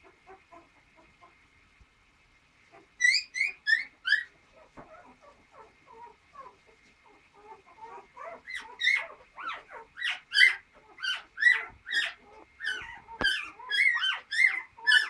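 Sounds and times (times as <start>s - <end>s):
puppies squealing and crying: 2.7s - 15.0s.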